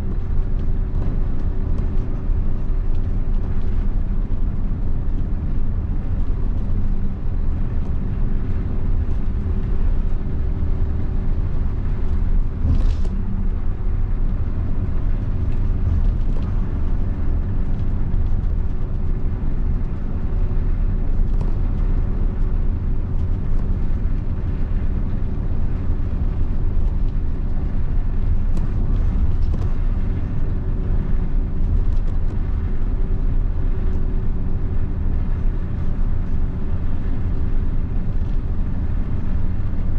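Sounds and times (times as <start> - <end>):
bus diesel engine drone: 0.0 - 39.9
road noise: 0.0 - 39.9.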